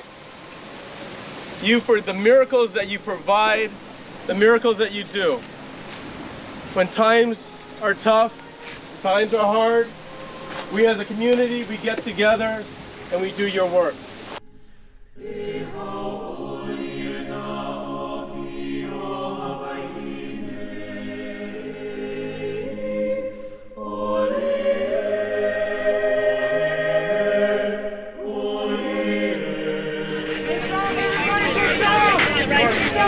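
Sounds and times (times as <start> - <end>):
choir singing held chords: 0.0 - 33.0.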